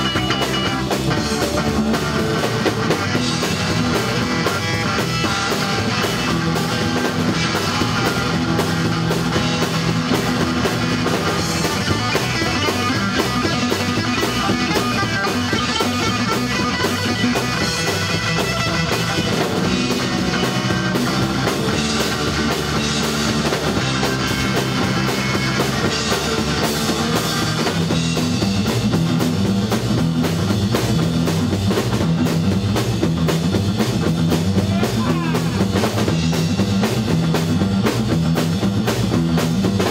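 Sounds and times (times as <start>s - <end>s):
drum kit beat: 0.0s - 39.9s
electric guitars: 0.0s - 39.9s
rock band playing: 0.0s - 39.9s.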